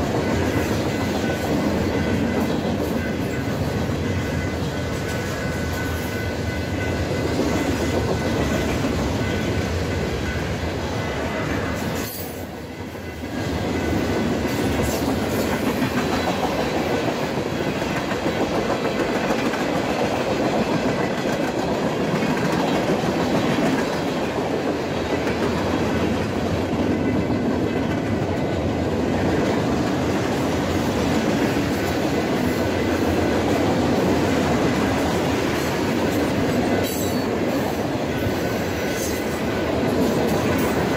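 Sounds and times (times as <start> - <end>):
clickety-clack over rail joints: 0.0 - 40.9
train wheels rumbling on rail: 0.0 - 40.9.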